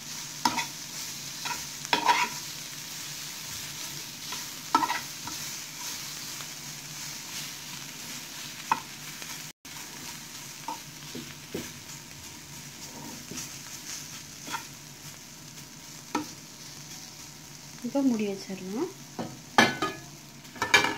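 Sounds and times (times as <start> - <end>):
vegetables sizzling in oil: 0.0 - 20.9.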